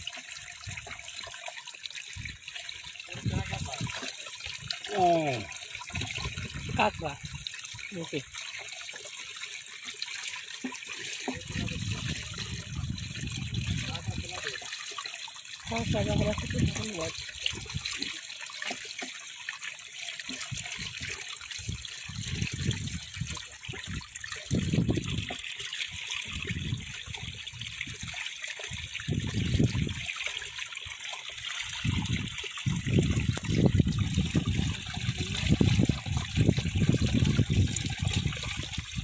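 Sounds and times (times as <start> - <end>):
water splashing and sloshing: 0.0 - 39.0
water trickling and gushing: 0.0 - 39.0.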